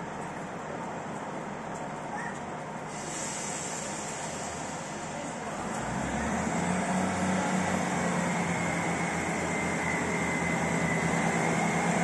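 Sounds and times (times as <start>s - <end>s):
train engine hum: 0.0s - 12.0s.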